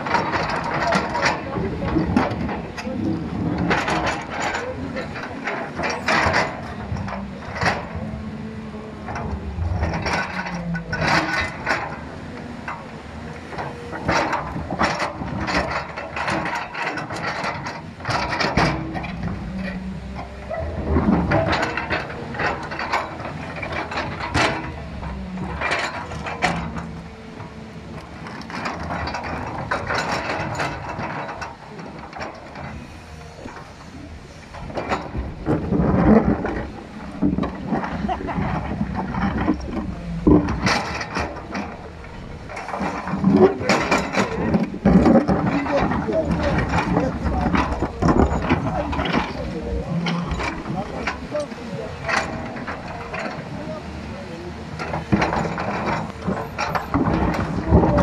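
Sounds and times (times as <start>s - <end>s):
diesel engine running: 0.0s - 58.0s
excavator bucket clattering and scraping: 0.0s - 58.0s.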